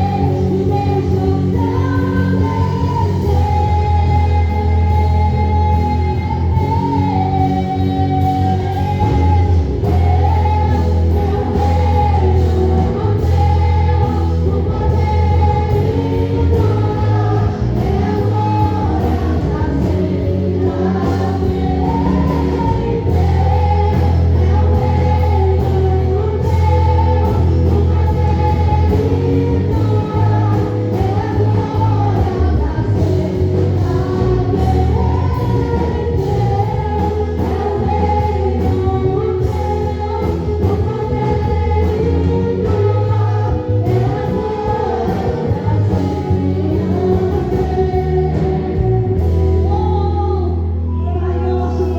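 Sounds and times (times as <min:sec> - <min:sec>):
band with heavy bass: 0:00.0 - 0:51.9
voices singing gospel: 0:00.0 - 0:51.9.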